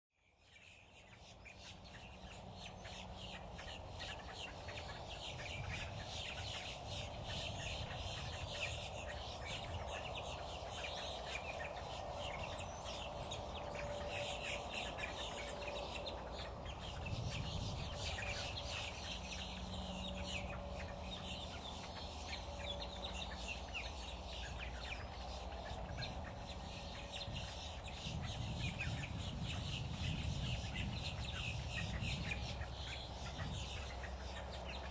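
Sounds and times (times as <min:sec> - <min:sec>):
birds chirping: 0:00.2 - 0:34.9.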